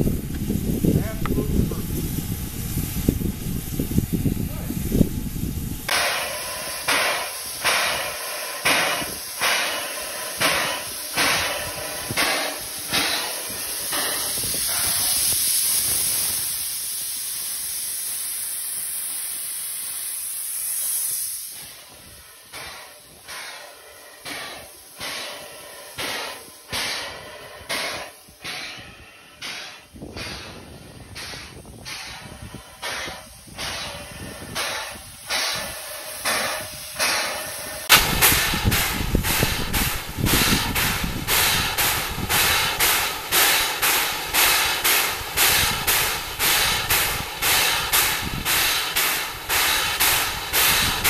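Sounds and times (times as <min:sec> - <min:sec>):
air hissing from orifice: 0:00.0 - 0:51.0
steam exhaust chuffing: 0:00.0 - 0:51.0.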